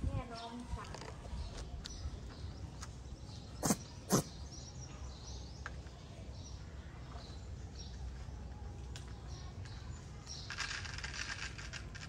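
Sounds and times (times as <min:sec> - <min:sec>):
faint bird chirping: 0:00.1 - 0:10.7.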